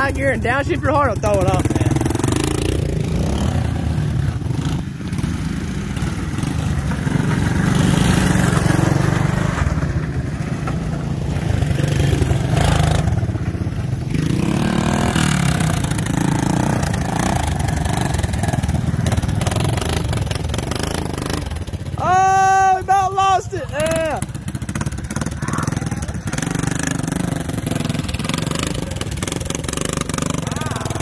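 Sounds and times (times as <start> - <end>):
engines running and revving: 0.0 - 31.0.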